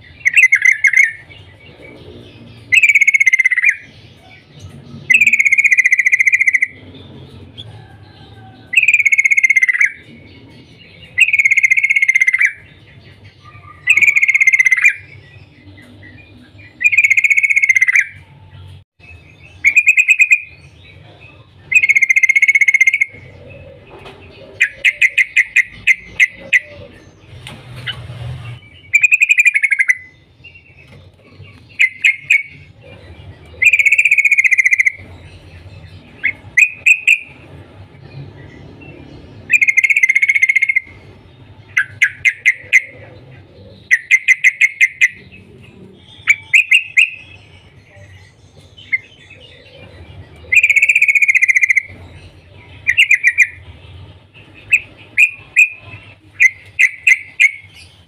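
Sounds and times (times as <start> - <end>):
bird calling stuttered notes: 0.0 - 58.0.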